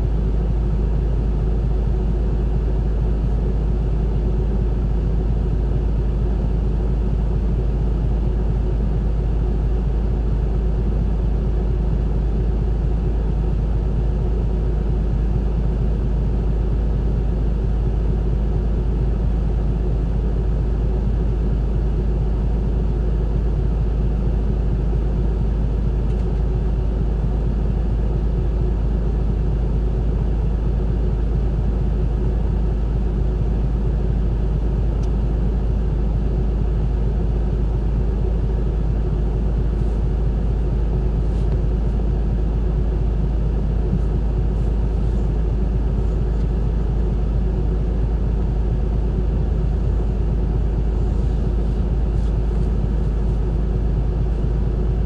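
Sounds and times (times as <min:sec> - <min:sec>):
bus diesel engine rumbling: 0:00.0 - 0:55.0
hum of moving bus: 0:00.0 - 0:55.0.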